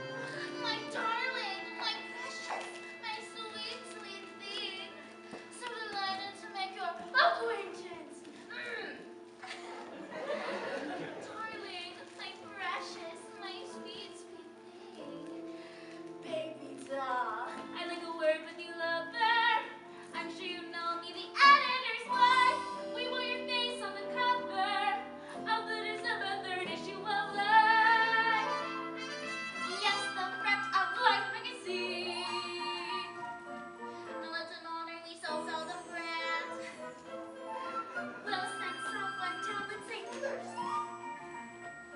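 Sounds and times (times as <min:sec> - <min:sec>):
instrumental accompaniment: 0:00.0 - 0:41.9.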